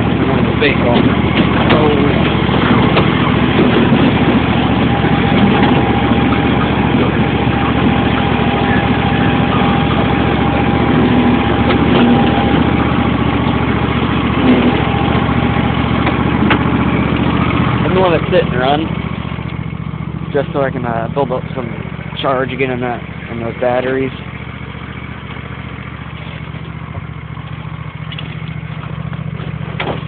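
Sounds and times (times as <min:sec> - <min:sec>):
lawn tractor engine running: 0:00.0 - 0:30.0
thin steady whine: 0:00.0 - 0:30.0.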